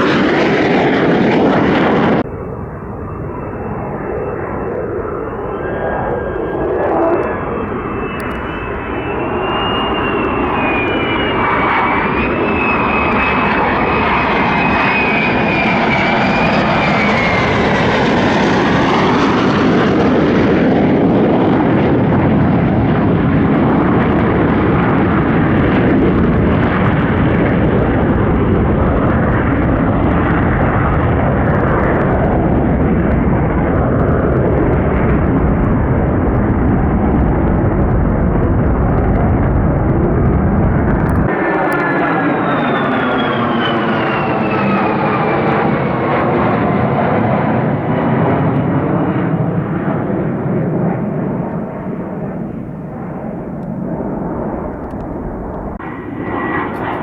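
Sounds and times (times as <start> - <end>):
jet engine whine and rumble: 0.0 - 57.0.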